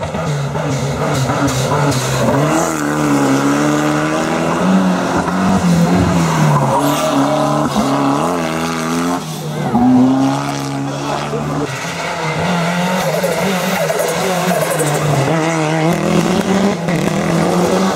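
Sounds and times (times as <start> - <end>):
car engine revving hard: 0.0 - 17.9.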